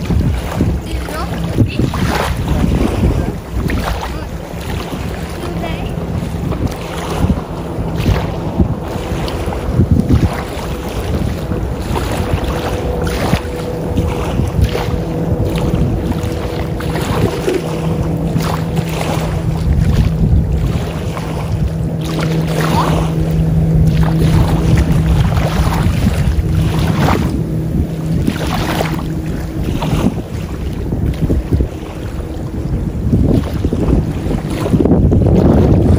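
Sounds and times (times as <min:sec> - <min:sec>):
steady low drone: 0:00.0 - 0:35.9
wind buffeting microphone: 0:00.0 - 0:35.9.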